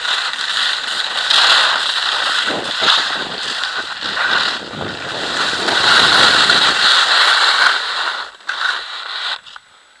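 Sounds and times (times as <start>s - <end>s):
skis scraping over icy snow: 0.0s - 10.0s.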